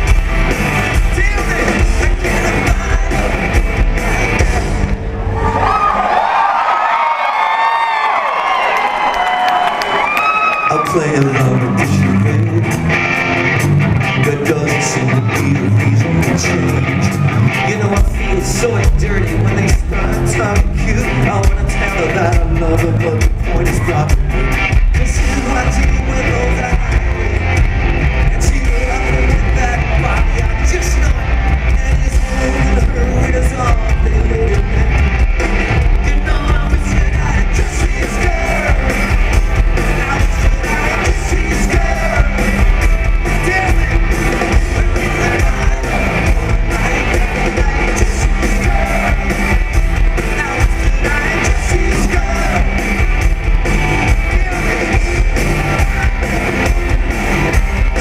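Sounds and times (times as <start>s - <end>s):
live rock band playing: 0.0s - 6.2s, 11.2s - 58.0s
lead vocal singing: 0.9s - 6.4s, 10.6s - 13.0s, 14.0s - 58.0s.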